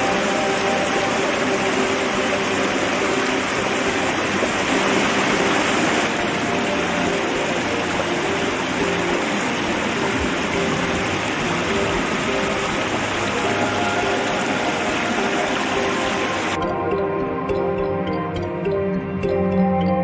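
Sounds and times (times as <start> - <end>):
stream rushing over rocks: 0.0 - 16.6.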